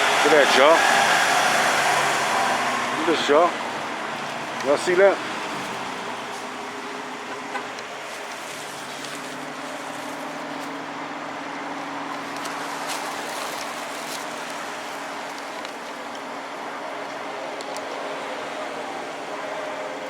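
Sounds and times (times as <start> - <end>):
street noise: 0.0 - 20.0
vehicle engine humming: 0.0 - 20.0.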